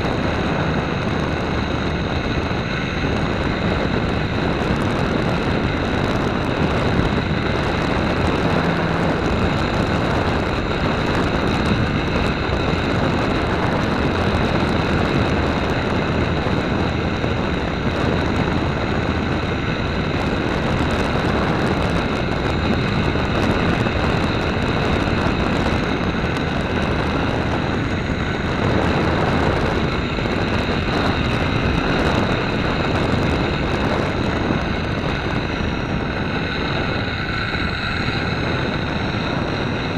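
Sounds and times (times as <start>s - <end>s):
model plane motor whine: 0.0s - 39.9s
wind rush: 0.0s - 39.9s.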